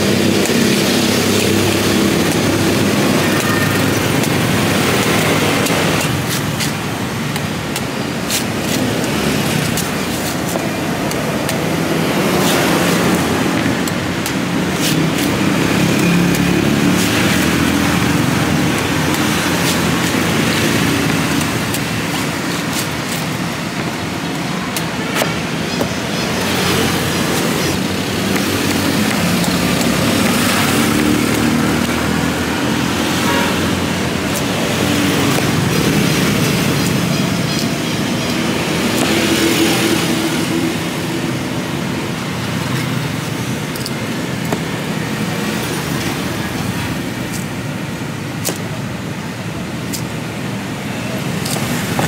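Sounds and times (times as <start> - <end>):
street traffic: 0.0 - 52.0.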